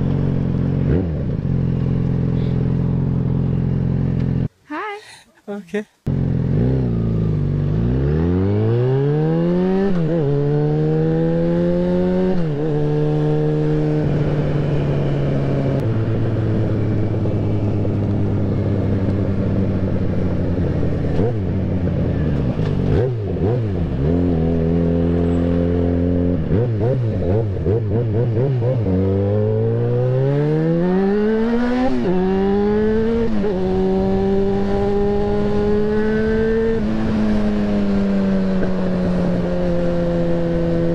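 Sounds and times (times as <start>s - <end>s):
motorcycle engine accelerating: 0.0s - 4.5s, 6.1s - 40.9s.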